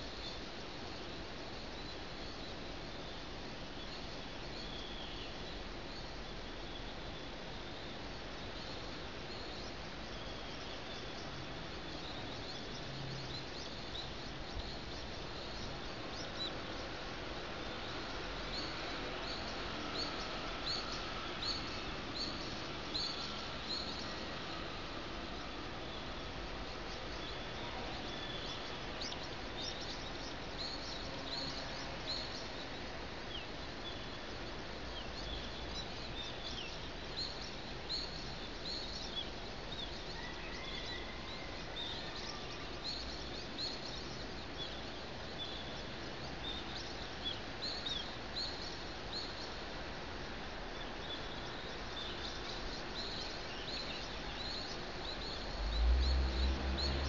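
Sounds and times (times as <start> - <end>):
city background hum: 0.0 - 57.0
small birds chirping: 0.0 - 57.0.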